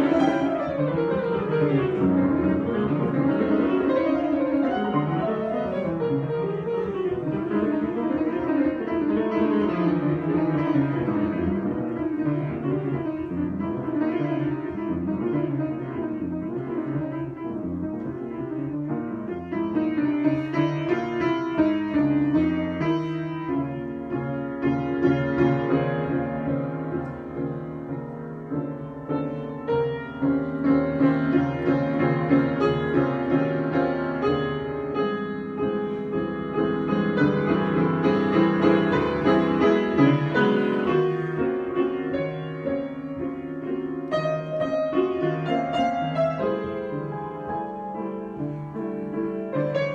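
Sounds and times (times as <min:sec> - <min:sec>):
improvised piano music: 0:00.0 - 0:49.9.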